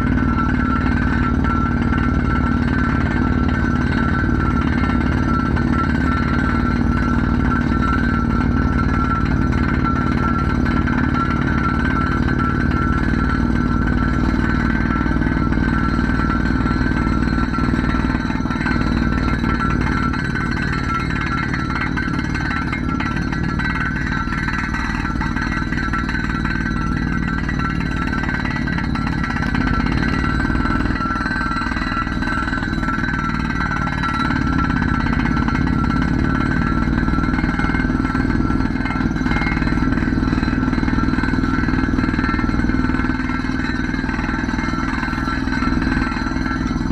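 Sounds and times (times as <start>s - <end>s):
drilling machine whining: 0.0s - 46.9s.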